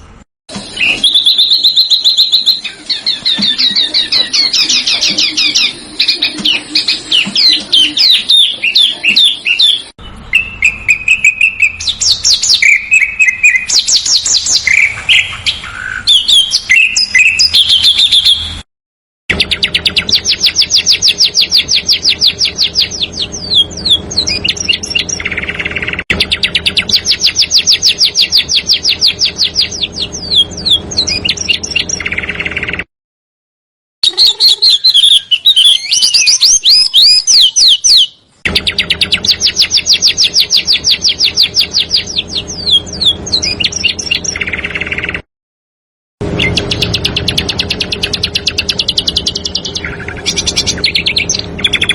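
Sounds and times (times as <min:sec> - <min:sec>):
songbirds chirping and trilling: 0:00.0 - 0:18.6, 0:19.3 - 0:32.9, 0:34.0 - 0:45.2, 0:46.2 - 0:51.9.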